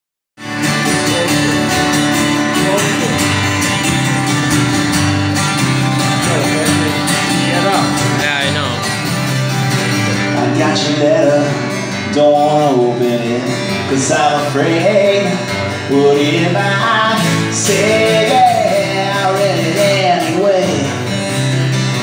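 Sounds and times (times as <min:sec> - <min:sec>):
acoustic guitars strumming: 0:00.4 - 0:22.0.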